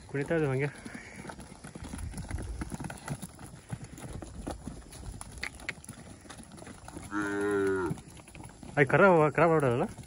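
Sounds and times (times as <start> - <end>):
cattle hooves walking: 0.0 - 10.0.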